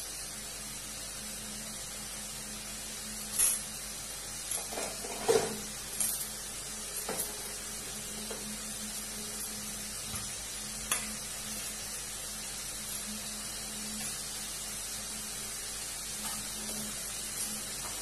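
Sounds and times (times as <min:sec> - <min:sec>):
low sizzle in a wok: 0:00.0 - 0:18.0.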